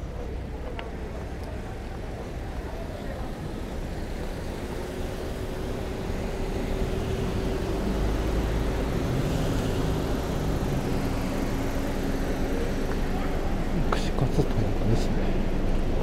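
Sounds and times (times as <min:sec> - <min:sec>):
cars passing slowly: 0:00.0 - 0:16.0
low engine hum: 0:00.0 - 0:16.0.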